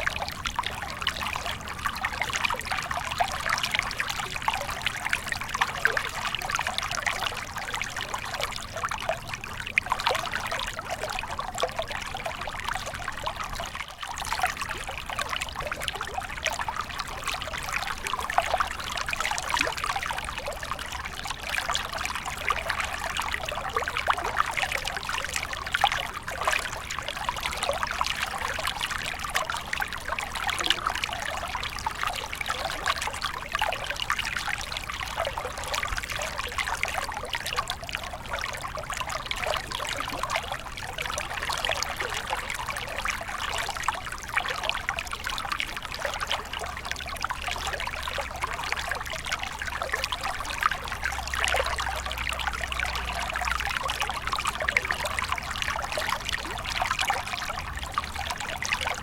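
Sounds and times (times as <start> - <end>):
stream water trickling over stones: 0.0 - 59.0.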